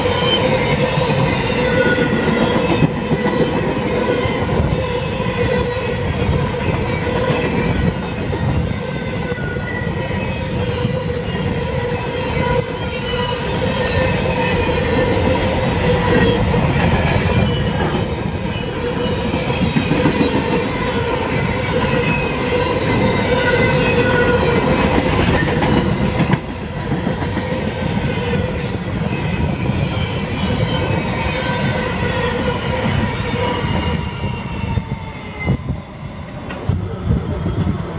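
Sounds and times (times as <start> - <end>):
train rumble: 0.0 - 37.9
train wheels squealing on rail: 0.0 - 37.9.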